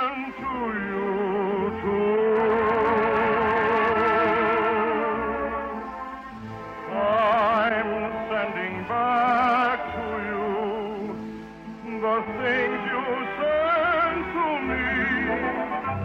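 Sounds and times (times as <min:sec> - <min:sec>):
orchestral accompaniment: 0:00.1 - 0:16.0.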